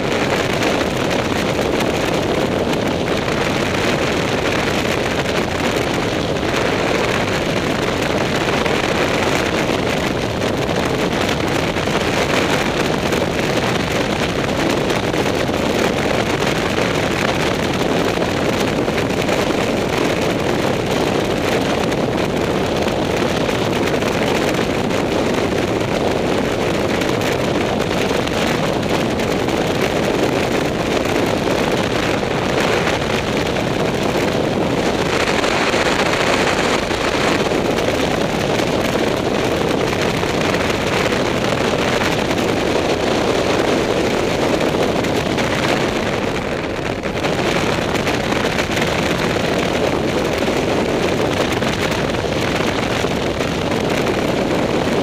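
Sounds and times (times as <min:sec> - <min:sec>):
motorcycle engine and road noise: 0:00.0 - 0:55.0
wind rushing on microphone: 0:00.0 - 0:55.0.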